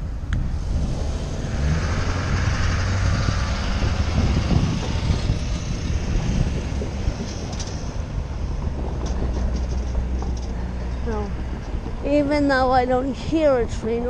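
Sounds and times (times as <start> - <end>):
vehicles driving past: 0.0 - 14.0.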